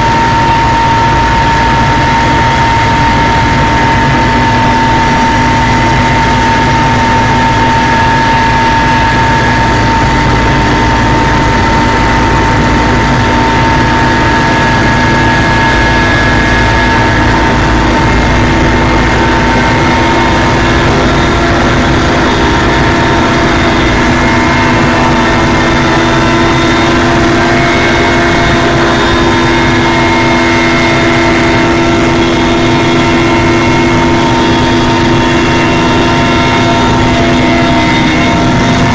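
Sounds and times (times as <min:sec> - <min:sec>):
helicopter drone: 0:00.0 - 0:38.9.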